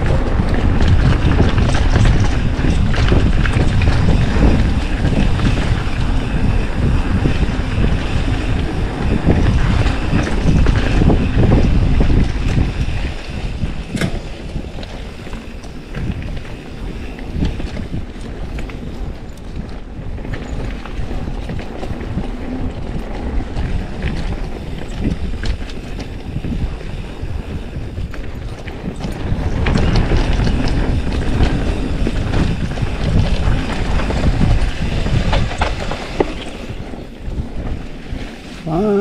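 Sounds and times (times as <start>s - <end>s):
bike clicks and rattles: 0.0s - 39.0s
bike tyre rumble: 0.0s - 39.0s
wind buffeting microphone: 0.0s - 39.0s.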